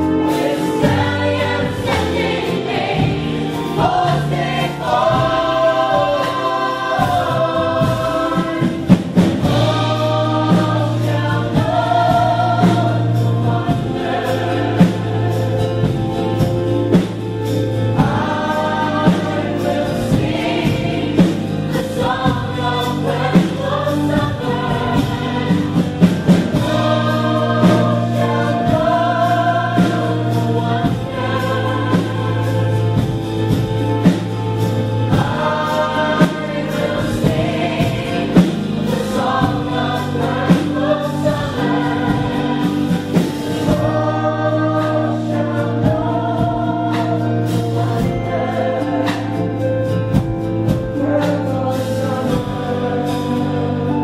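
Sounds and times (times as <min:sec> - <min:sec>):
group of voices singing: 0:00.0 - 0:54.0
sustained instrumental accompaniment: 0:00.0 - 0:54.0.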